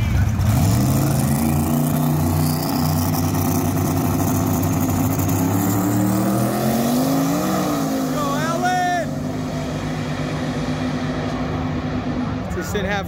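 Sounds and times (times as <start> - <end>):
drag car engines at full throttle: 0.0 - 13.0.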